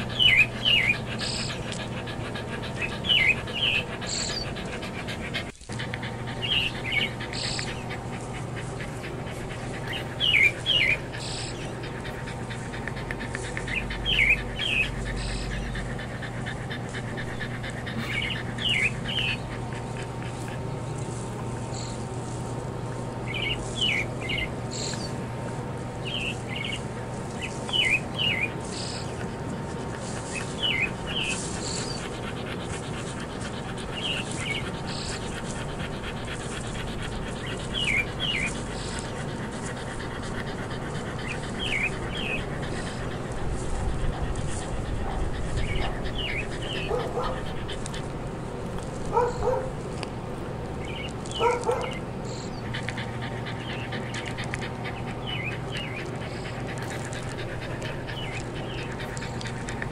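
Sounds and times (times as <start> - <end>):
outdoor background hum: 0.0 - 59.9
small birds chirping: 0.0 - 59.9.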